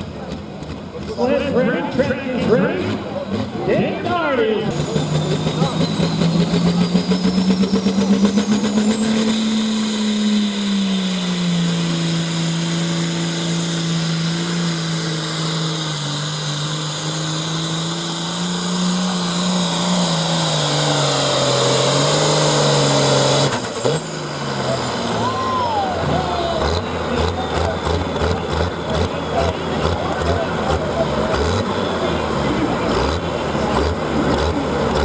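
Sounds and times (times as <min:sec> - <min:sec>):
engine at high revs: 0:00.0 - 0:35.0.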